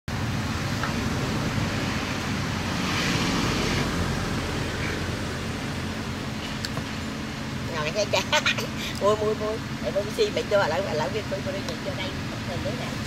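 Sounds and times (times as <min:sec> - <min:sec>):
rushing hiss-like outdoor noise: 0:00.1 - 0:13.0.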